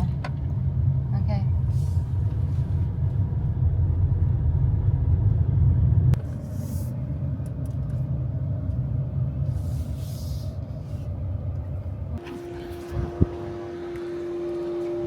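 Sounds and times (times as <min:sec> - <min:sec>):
car driving on highway: 0:00.0 - 0:15.0.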